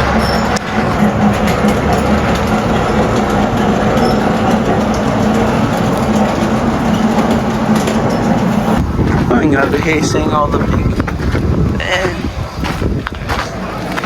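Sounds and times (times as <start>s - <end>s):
deep low rumble: 0.0s - 14.0s
train running: 0.0s - 14.0s.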